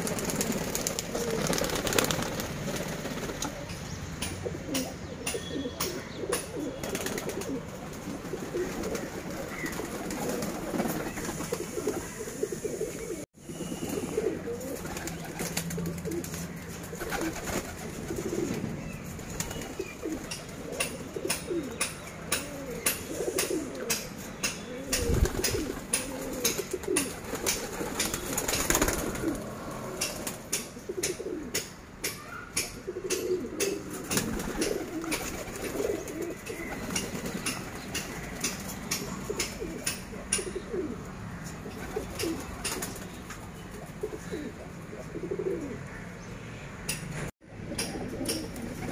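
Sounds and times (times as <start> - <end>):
pigeons cooing: 0.0 - 46.1, 47.6 - 48.9.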